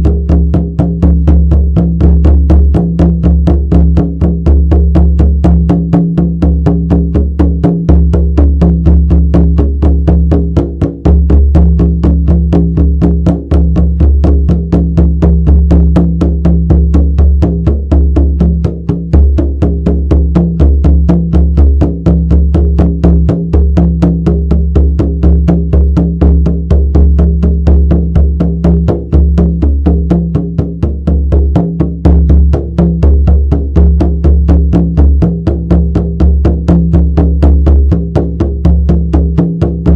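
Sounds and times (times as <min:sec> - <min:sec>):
frame drum beating: 0:00.0 - 0:39.9.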